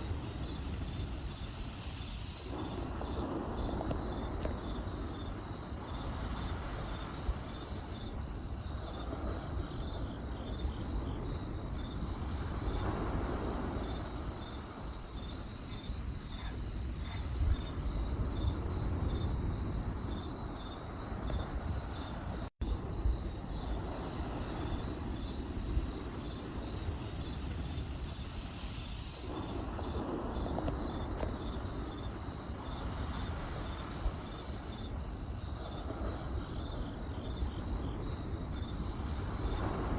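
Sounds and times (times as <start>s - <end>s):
campfire rushing: 0.0s - 39.9s
crickets chirping: 0.0s - 39.9s.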